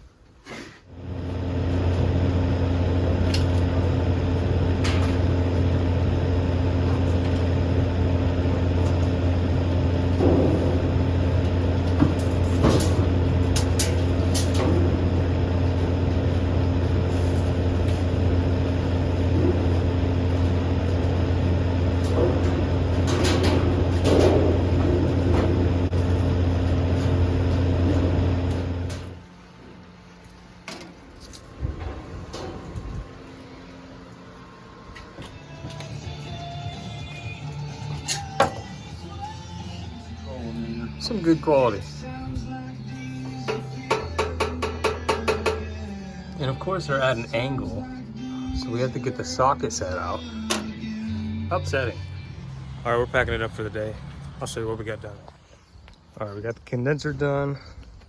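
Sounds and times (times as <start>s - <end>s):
low mechanical drone: 0.9s - 58.0s.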